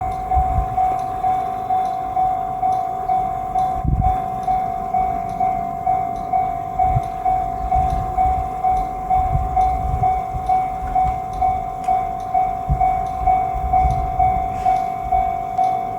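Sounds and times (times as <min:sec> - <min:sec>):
low rumble: 0:00.0 - 0:15.8
level-crossing warning bell: 0:00.0 - 0:15.9.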